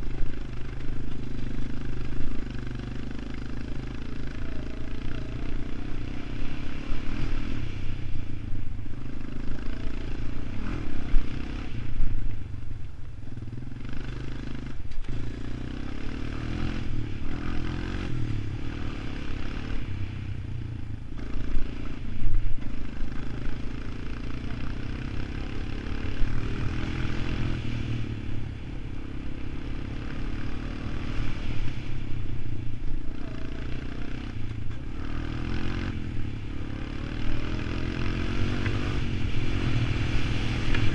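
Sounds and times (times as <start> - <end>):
atv engine revving: 0.0 - 12.5, 13.2 - 40.9.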